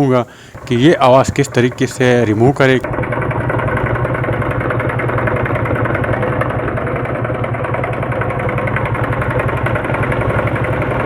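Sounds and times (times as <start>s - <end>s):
motorcycle engine idling with clatter: 0.0s - 11.0s.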